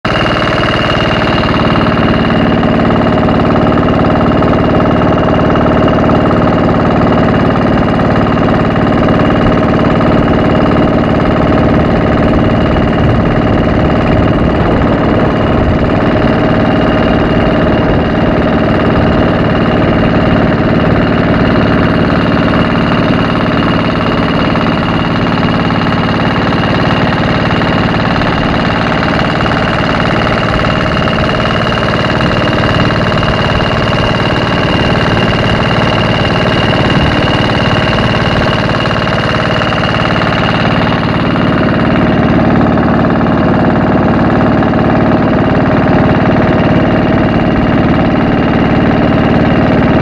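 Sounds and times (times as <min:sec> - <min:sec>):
boat engine running: 0:00.0 - 0:50.0
high whine: 0:00.0 - 0:50.0.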